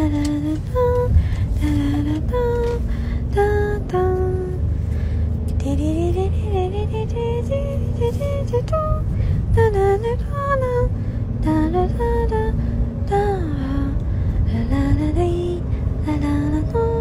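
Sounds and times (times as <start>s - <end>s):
low steady backing: 0.0s - 17.0s.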